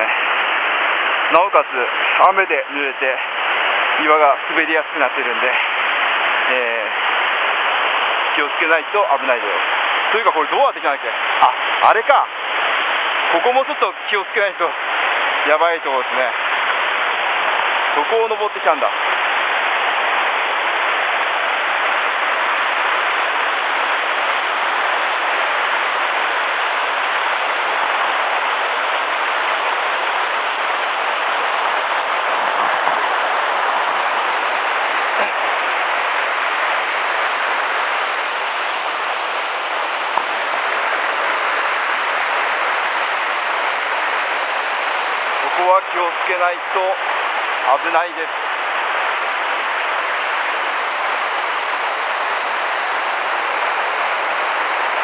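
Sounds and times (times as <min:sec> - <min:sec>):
whitewater rushing: 0:00.0 - 0:55.0.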